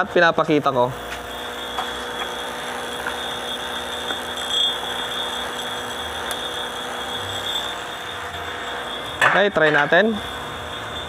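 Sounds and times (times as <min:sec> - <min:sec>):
electrical machinery hum: 0:00.0 - 0:11.0
thin high whine: 0:00.0 - 0:11.0.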